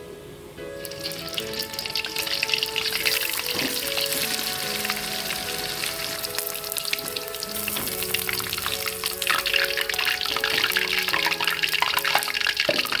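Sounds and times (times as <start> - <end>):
background music with held notes: 0.0 - 13.0
oil sizzling in a frying pan: 0.8 - 13.0.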